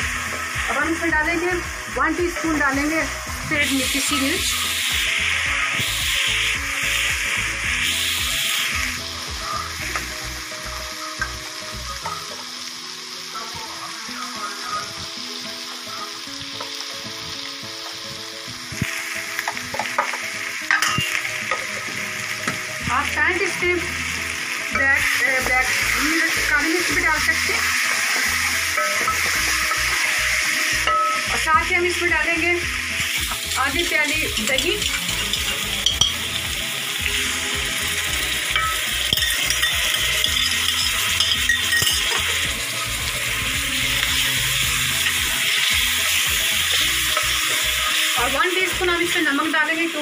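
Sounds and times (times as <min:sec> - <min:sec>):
chicken sizzling in hot oil: 0:00.0 - 0:50.0
soft background music: 0:00.0 - 0:50.0.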